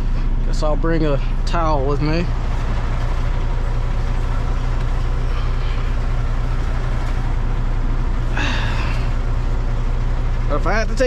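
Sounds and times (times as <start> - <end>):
diesel truck idling: 0.0 - 11.0.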